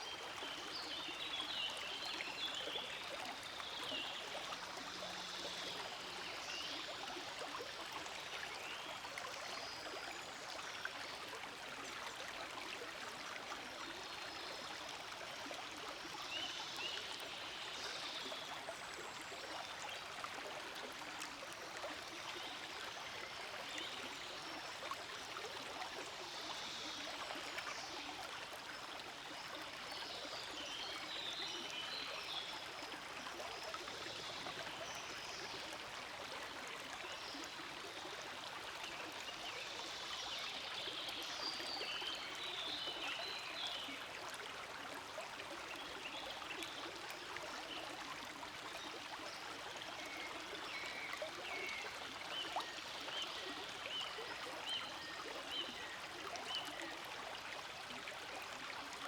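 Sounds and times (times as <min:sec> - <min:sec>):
forest stream flowing: 0:00.0 - 0:59.0.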